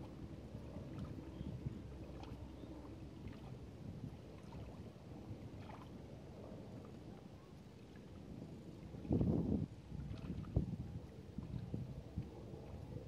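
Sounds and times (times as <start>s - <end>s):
small waves lapping: 0.0s - 13.0s
soft splashes: 0.0s - 13.0s
wind rumble on microphone: 0.0s - 13.0s.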